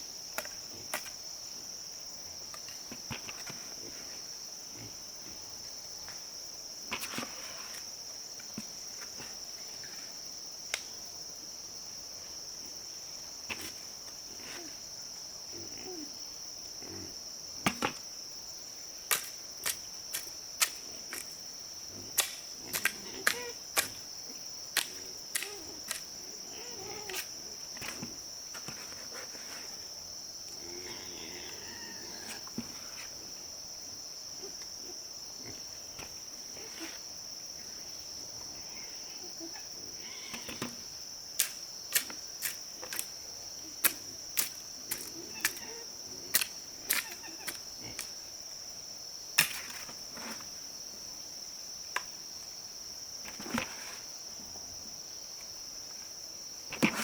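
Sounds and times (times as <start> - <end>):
crickets droning: 0.0 - 57.0.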